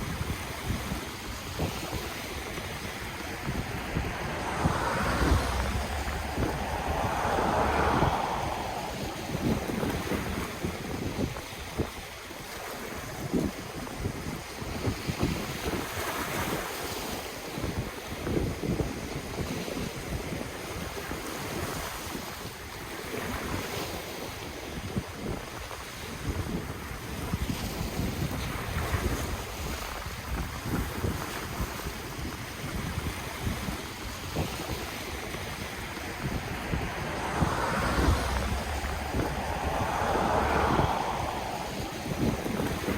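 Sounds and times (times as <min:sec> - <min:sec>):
ocean surf washing on shore: 0:00.0 - 0:19.5, 0:26.3 - 0:42.9
wind buffeting microphone: 0:00.0 - 0:42.9.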